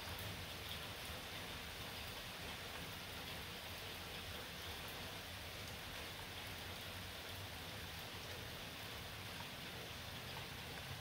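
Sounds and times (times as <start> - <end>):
light rain hissing: 0.0 - 11.0
raindrop ticks: 0.0 - 11.0.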